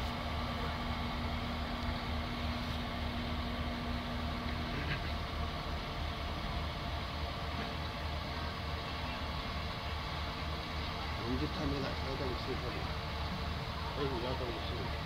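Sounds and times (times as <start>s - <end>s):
heavy vehicle engine rumbling: 0.0s - 15.0s
steady hum: 0.0s - 15.0s.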